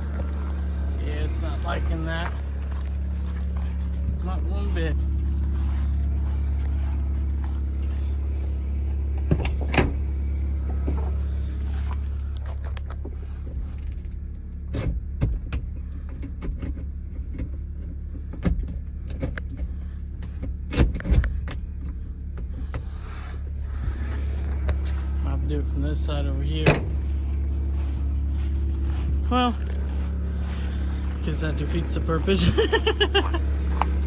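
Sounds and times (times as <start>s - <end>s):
forklift engine running: 0.0s - 34.0s.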